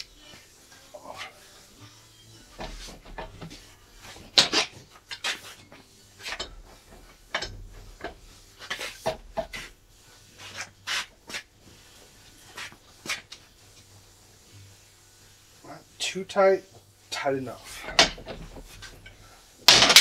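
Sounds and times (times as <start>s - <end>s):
rag rubbing metal: 0.0s - 19.9s.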